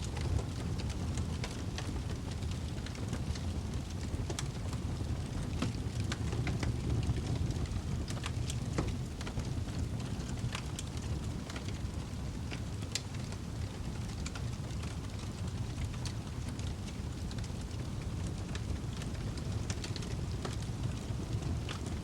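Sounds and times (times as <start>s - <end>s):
fire crackling and popping: 0.0s - 22.0s
fire rumbling in fireplace: 0.0s - 22.0s.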